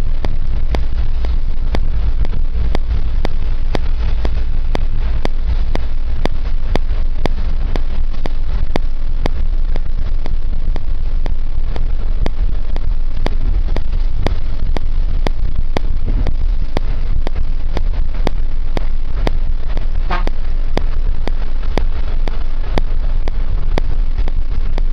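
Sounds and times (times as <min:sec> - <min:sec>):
regular clicking: 0:00.0 - 0:24.9
vehicle engine and road rumble: 0:00.0 - 0:24.9.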